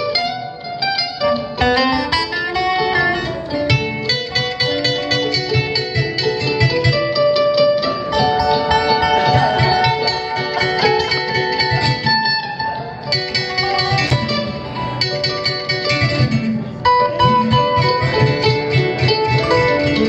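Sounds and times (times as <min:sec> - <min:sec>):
plucked strings and guitar music: 0:00.0 - 0:20.0.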